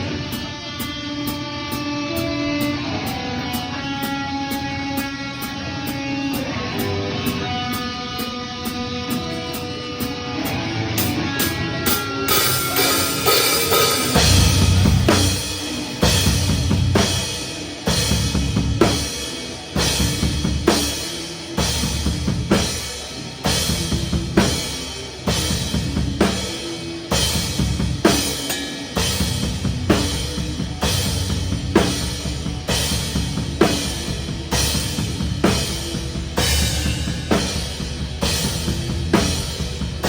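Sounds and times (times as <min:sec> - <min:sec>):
metal band playing live: 0:00.0 - 0:40.0
cymbals: 0:01.3 - 0:40.0.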